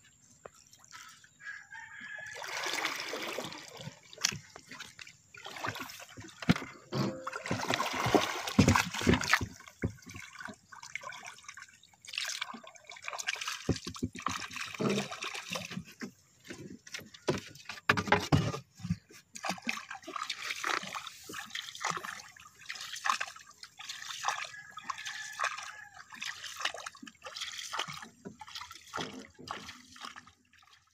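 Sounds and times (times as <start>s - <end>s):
water splashing against a boat: 0.1s - 30.9s
paddle splashing in water: 0.6s - 30.9s.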